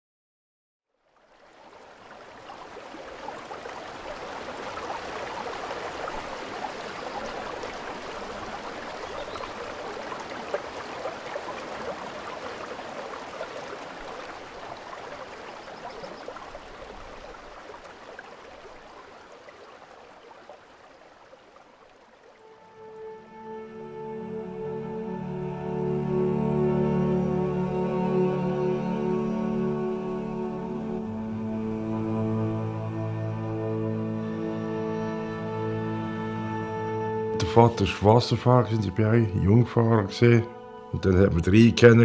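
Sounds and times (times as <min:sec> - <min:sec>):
river water rushing: 0:01.1 - 0:38.5.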